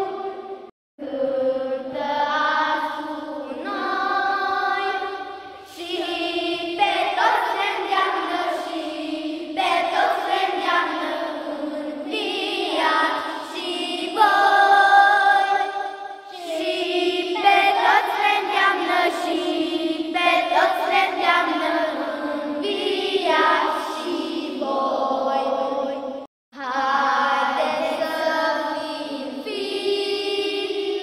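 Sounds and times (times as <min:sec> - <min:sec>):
children singing a hymn: 0:00.0 - 0:31.0.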